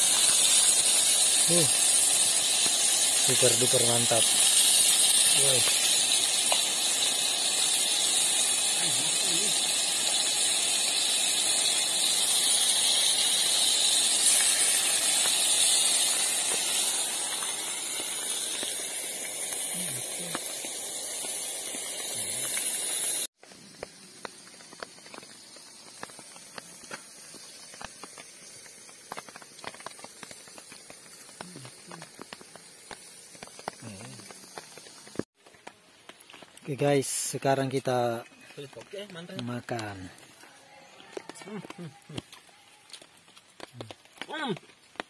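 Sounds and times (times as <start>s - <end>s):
camp stove hissing: 0.0s - 45.0s.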